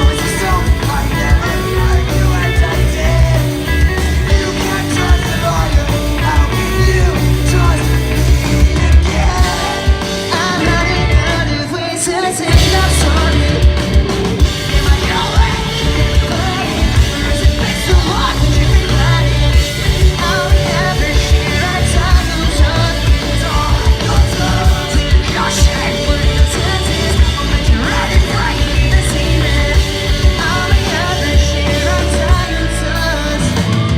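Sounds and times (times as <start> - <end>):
rock band playing loud: 0.0 - 33.9.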